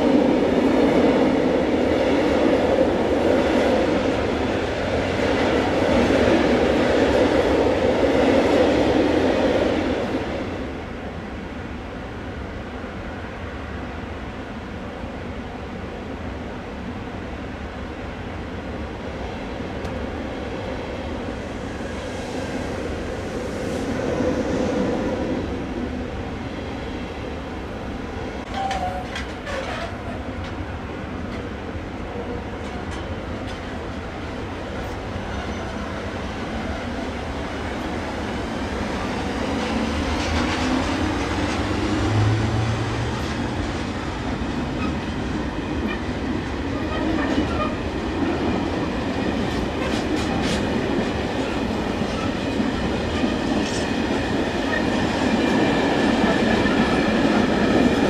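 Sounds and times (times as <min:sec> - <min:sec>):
passenger train passing: 0:00.0 - 0:58.0.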